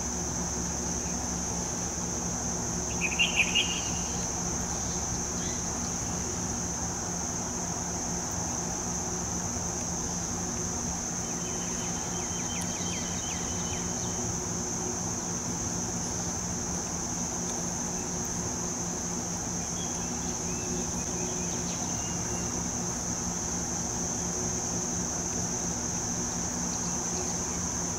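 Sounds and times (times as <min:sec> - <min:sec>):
high-pitched insect drone: 0:00.0 - 0:27.9
low steady hum: 0:00.0 - 0:27.9.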